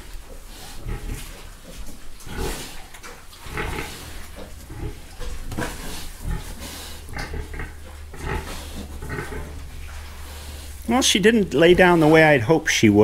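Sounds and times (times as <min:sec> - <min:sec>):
pigs grunting and squealing: 0:00.0 - 0:12.4.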